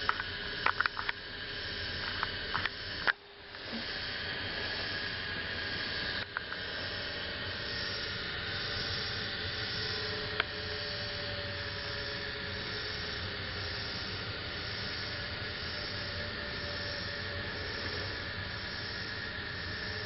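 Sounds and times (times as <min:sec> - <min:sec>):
lathe motor whirring: 0:00.0 - 0:20.0.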